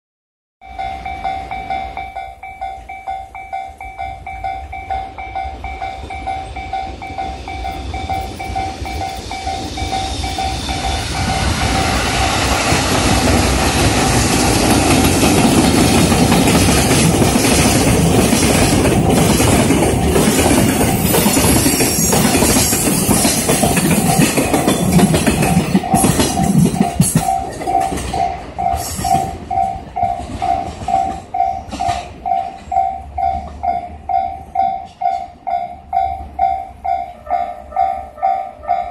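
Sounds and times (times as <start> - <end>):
freight train passing: 0.6 - 38.9
level crossing warning bell: 0.6 - 38.9
wheels clacking over rail joints: 3.8 - 35.5.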